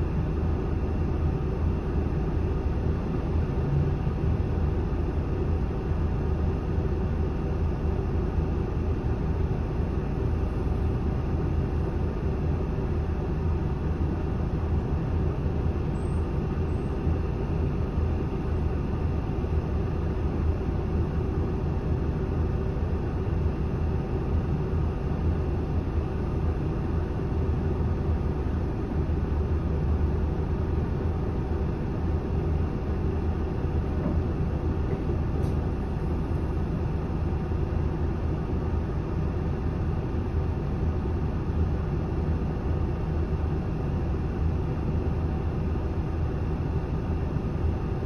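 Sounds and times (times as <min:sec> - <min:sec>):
bus diesel engine idling: 0:00.0 - 0:48.0.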